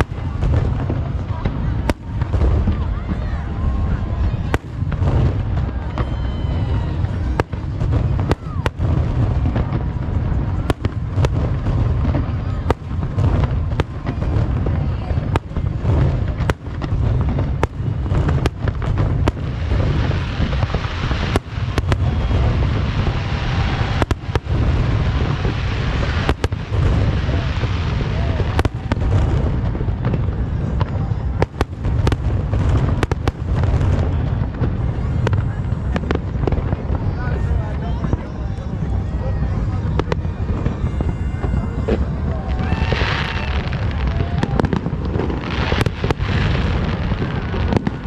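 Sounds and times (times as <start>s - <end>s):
fireworks bangs: 0.0s - 48.0s
heavy rumble: 0.0s - 48.0s.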